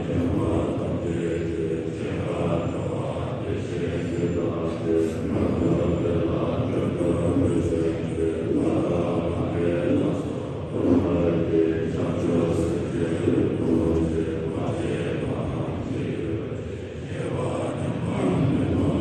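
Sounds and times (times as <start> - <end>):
low voices chanting: 0.0 - 19.0.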